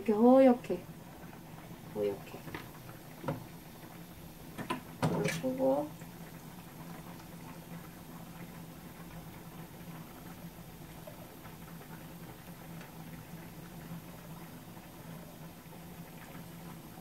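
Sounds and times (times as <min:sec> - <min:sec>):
egg crackling in a frying pan: 0:00.0 - 0:17.0.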